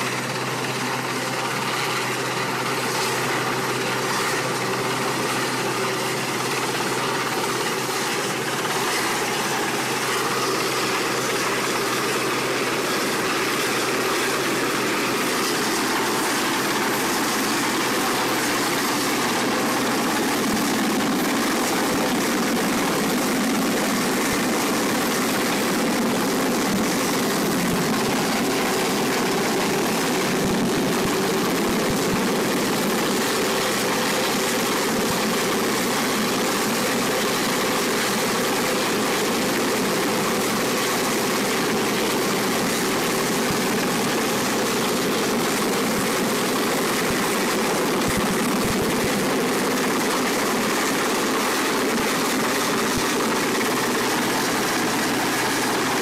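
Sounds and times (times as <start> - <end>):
helicopter hovering overhead: 0.0 - 56.0.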